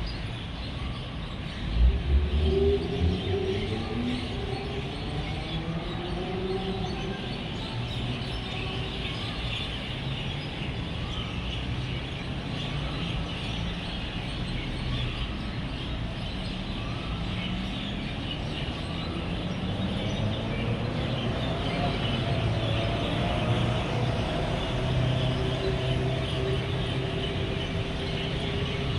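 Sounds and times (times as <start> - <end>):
many birds chirping: 0.0 - 28.9
road traffic hum: 0.0 - 28.9.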